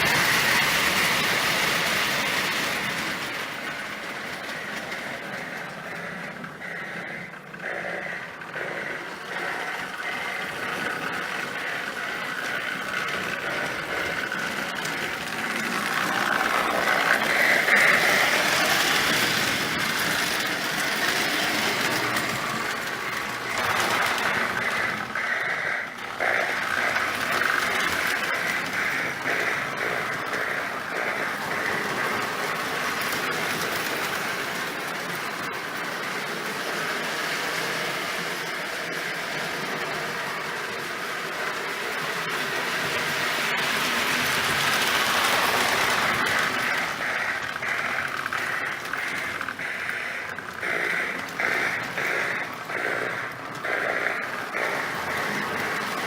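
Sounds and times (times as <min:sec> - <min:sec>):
toy train motor whirring and rattling: 0:00.0 - 0:56.0.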